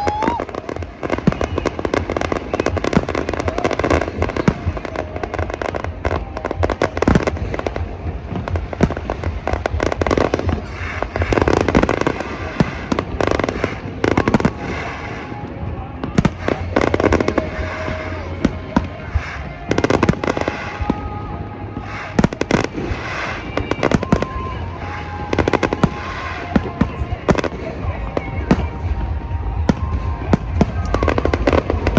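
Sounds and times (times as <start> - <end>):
fireworks popping and crackling: 0.0 - 31.9
heavy fireworks bangs: 0.0 - 31.9.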